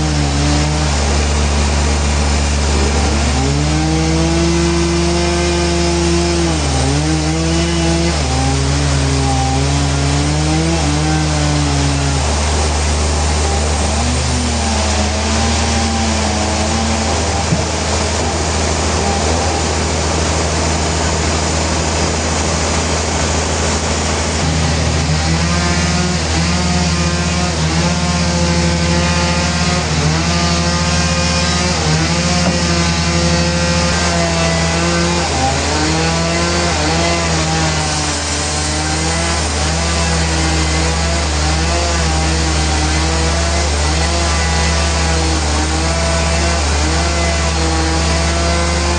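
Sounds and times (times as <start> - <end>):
sawmill saw cutting log: 0.0 - 48.9.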